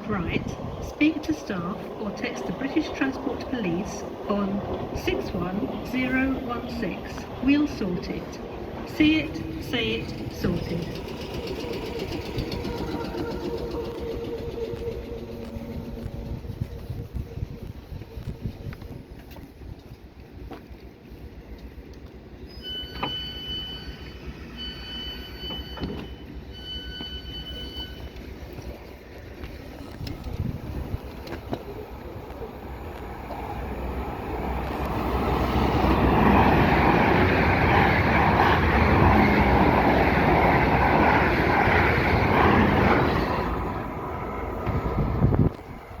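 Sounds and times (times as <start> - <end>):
train passing: 0.0 - 46.0.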